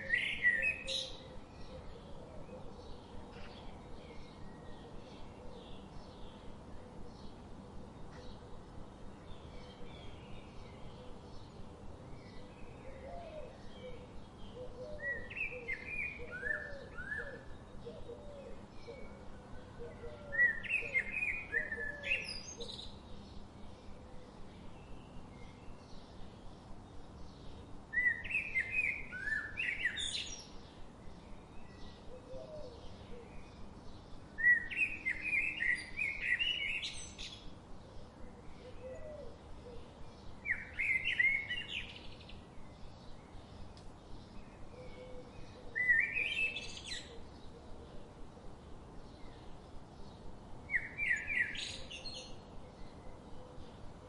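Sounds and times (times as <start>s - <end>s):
faint steady hiss: 0.0s - 54.0s
songbird chirping: 0.0s - 54.0s.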